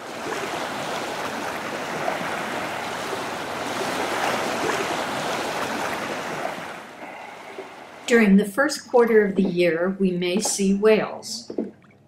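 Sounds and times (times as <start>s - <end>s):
water rushing and splashing: 0.0s - 8.3s, 10.3s - 12.0s.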